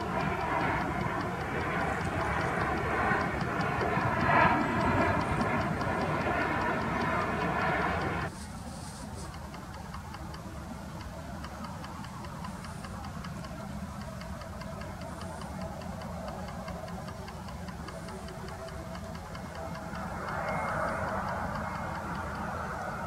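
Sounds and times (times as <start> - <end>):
distant jet airliner rumble: 0.0 - 9.3, 10.0 - 23.0
rapid high-pitched ticking: 0.0 - 23.0.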